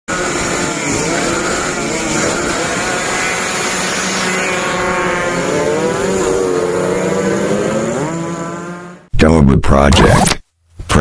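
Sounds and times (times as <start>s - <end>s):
motorcycle engines revving hard: 0.1s - 9.1s.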